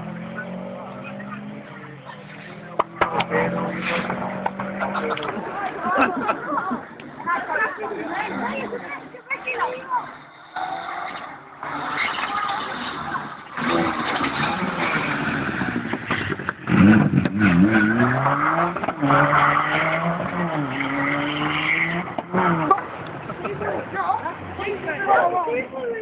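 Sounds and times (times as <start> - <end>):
rally car engine accelerating: 0.0 - 25.2.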